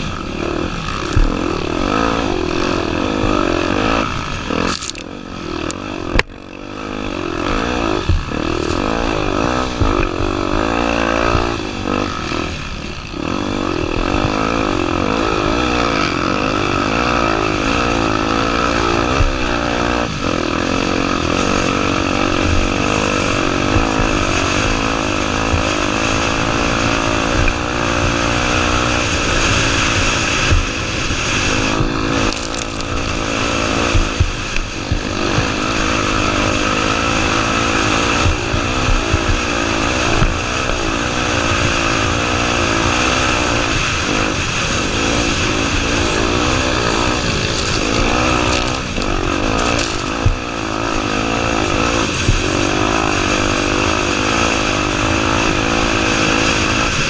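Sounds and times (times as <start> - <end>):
motorcycle engine revving: 0.0 - 57.0
rush of wind noise: 0.0 - 57.0.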